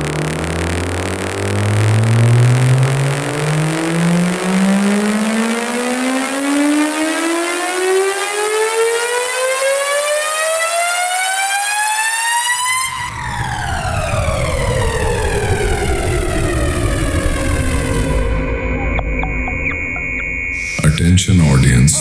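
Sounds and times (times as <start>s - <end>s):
buzzy tone rising in pitch: 0.0s - 21.0s.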